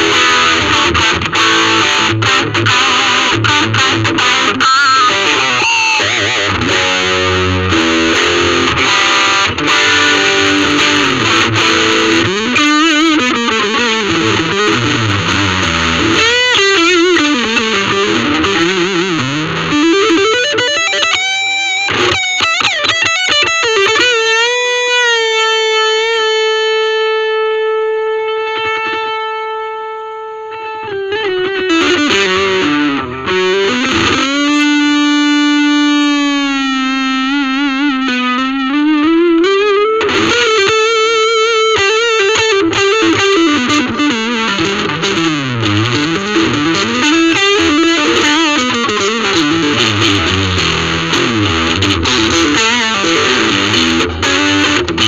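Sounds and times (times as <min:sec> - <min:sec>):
electric guitar lead with bends: 0:00.0 - 0:55.0.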